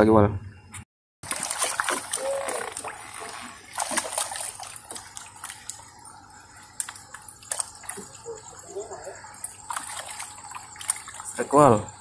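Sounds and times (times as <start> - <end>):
water splashing and lapping: 1.2 - 12.0.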